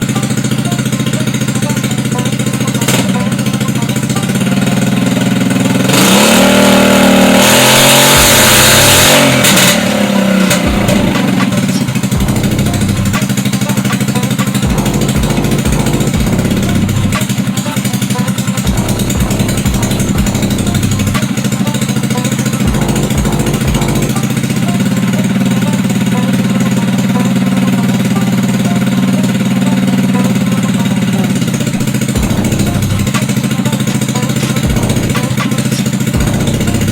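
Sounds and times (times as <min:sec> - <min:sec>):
scooter engine idling and revving: 0:00.0 - 0:36.9.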